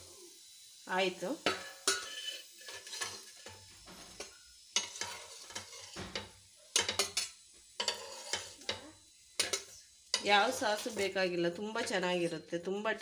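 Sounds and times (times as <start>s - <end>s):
oil sizzling: 0.0s - 13.0s
metal spatula scraping griddle: 1.4s - 12.1s.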